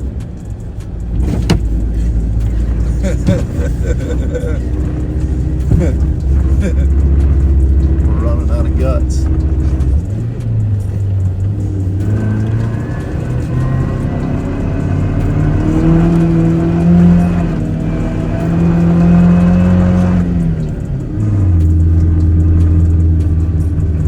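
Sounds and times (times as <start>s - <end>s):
truck engine revving under load: 0.0s - 24.0s.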